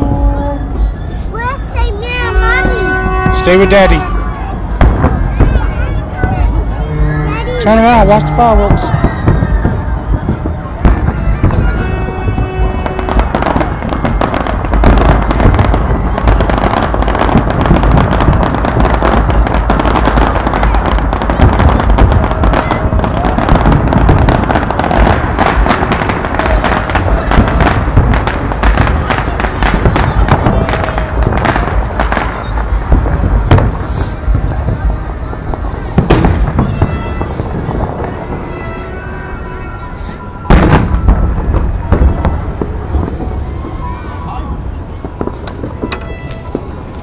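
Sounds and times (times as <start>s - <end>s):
fireworks bangs and crackle: 0.0s - 47.0s.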